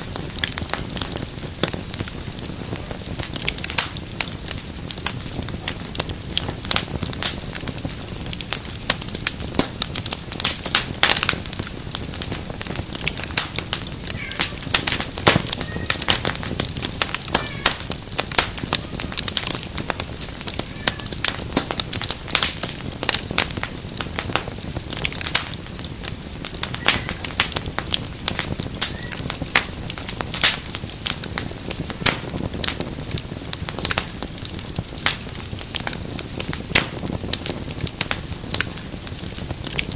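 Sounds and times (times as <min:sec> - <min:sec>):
rush of burning flames: 0:00.0 - 0:39.9
wood fire crackling and popping: 0:00.0 - 0:39.9.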